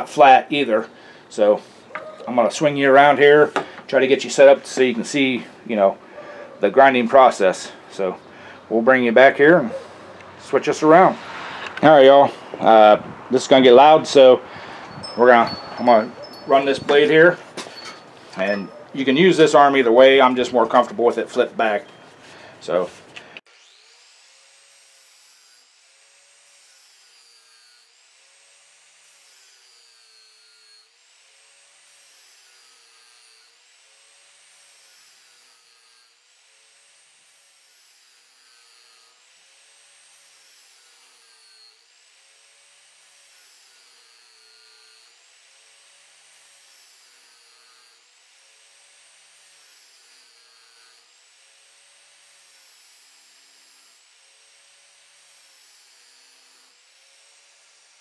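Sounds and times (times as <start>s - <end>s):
angle grinder grinding steel: 0.0s - 58.0s.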